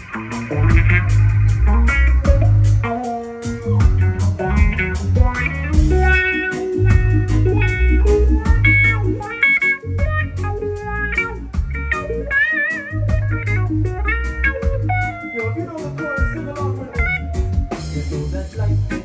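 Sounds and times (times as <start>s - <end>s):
electric guitar solo: 0.0s - 18.1s
bass guitar: 0.0s - 19.0s
drums: 0.0s - 19.0s.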